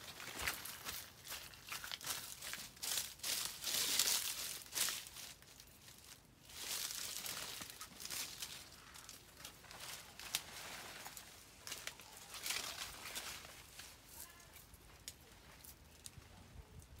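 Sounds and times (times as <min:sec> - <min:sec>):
leaves and branches rustling: 0:00.0 - 0:17.0
twigs and bark clicking: 0:00.2 - 0:17.0.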